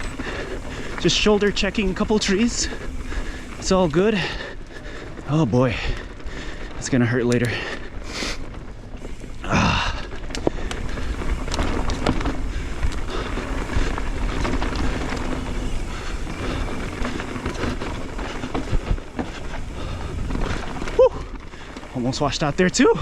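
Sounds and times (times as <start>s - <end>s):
bike rattling over bumps: 0.0s - 23.0s
tyre and wind noise: 0.0s - 23.0s.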